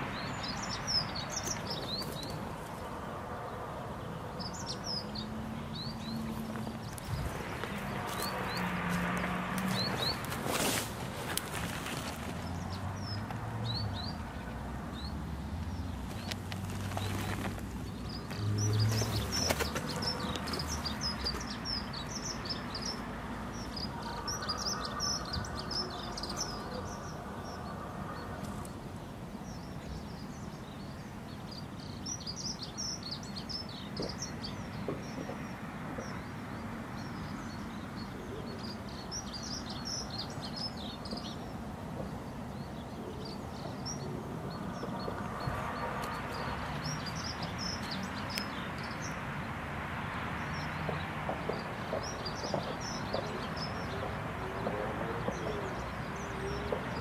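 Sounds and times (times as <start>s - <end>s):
small birds chirping: 0.0s - 3.1s, 4.0s - 49.2s, 50.3s - 57.0s
outdoor background noise: 0.0s - 57.0s.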